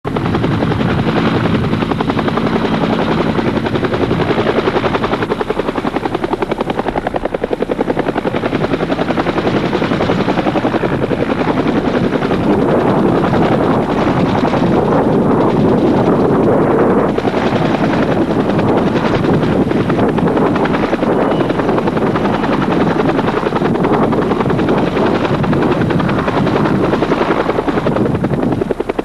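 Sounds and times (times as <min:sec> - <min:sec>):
helicopter rotor thumping: 0:00.1 - 0:29.0.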